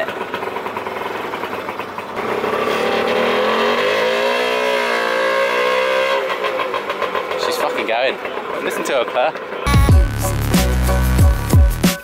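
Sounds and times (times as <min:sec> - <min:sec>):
auto-rickshaw engine puttering and revving: 0:00.0 - 0:11.8.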